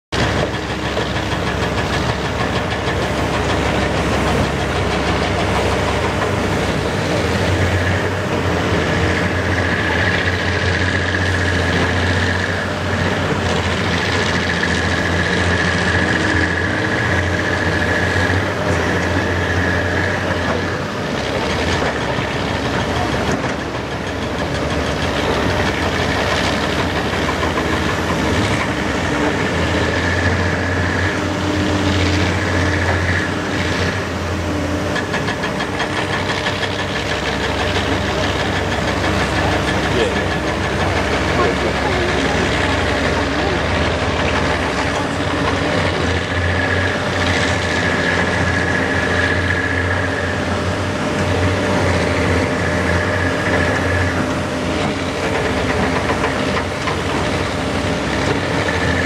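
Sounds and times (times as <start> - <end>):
excavator diesel engine running: 0.1 - 59.0.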